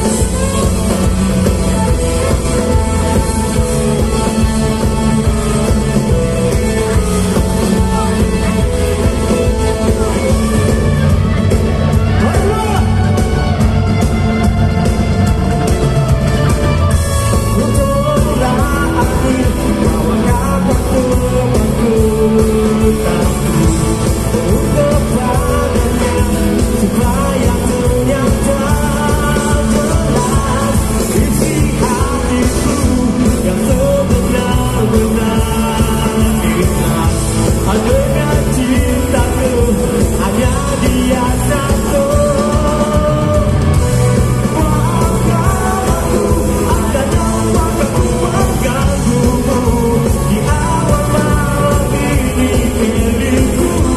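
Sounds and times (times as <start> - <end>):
male lead vocal: 0.0 - 14.2, 16.5 - 53.9
live rock band playing: 0.0 - 53.9.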